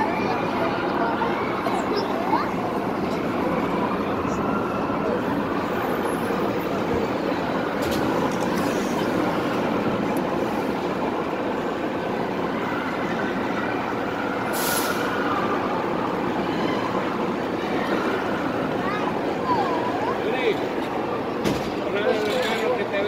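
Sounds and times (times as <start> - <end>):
amusement park rides din: 0.0 - 23.0.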